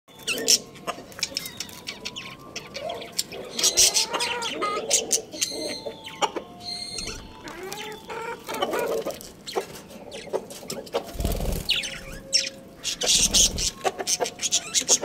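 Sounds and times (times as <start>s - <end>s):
budgerigars chirping and warbling: 0.1s - 15.0s.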